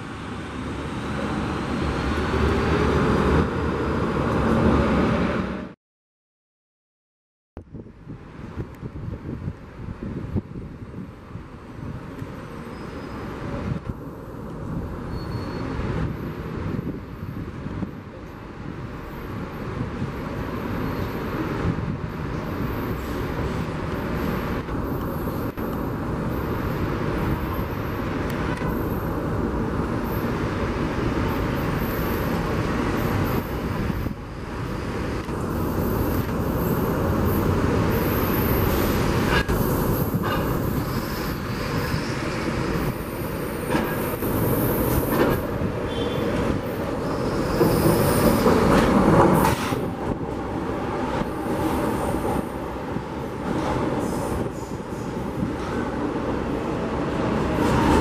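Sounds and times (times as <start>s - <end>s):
city traffic noise: 0.0s - 5.8s, 7.6s - 58.0s
train rumbling on elevated track: 0.0s - 5.8s, 7.6s - 58.0s.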